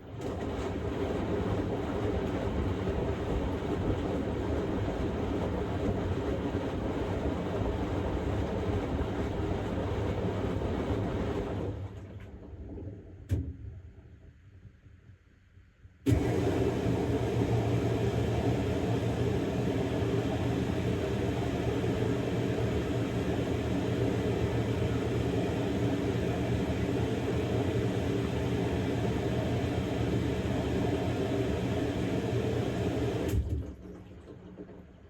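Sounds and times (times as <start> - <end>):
washing machine hum: 0.0 - 13.6, 16.1 - 35.0.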